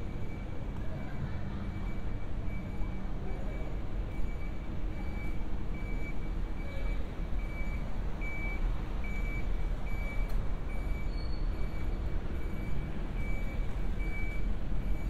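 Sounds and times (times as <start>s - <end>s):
electronic warning beeps: 0.0s - 15.0s
low rumble of city traffic: 0.0s - 15.0s.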